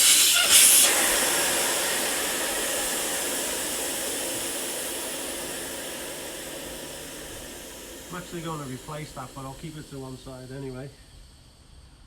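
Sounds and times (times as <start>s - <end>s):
air hissing out of tyre valve: 0.0s - 12.0s.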